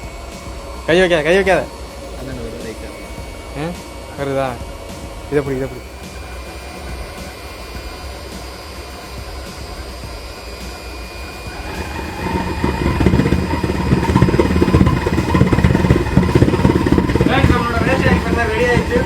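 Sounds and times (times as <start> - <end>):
oil burner rumbling: 0.0 - 19.0
thin high whine: 0.0 - 19.0.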